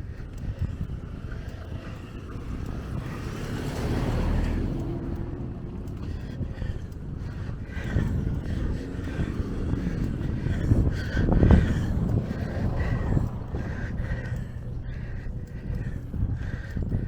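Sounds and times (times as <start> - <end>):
motor vehicle passing: 0.0 - 17.0
wind on microphone: 0.0 - 17.0.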